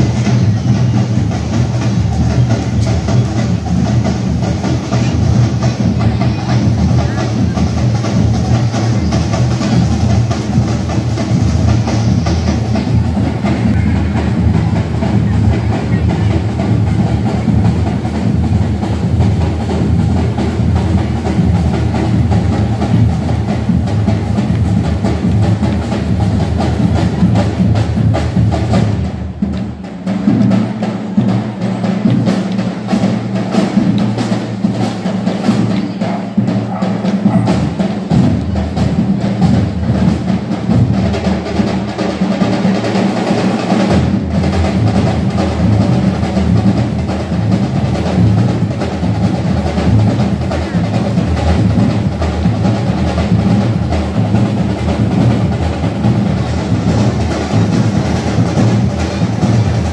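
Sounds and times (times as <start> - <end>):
music with drums and percussion: 0.0 - 59.9.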